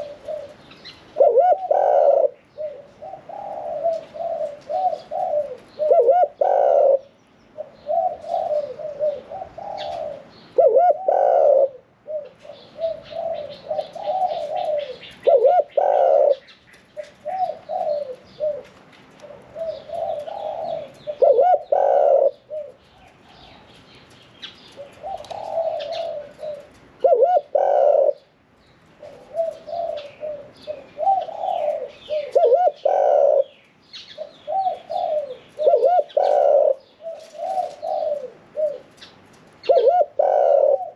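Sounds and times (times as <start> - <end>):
dove cooing: 0.0 - 23.8, 24.4 - 40.9.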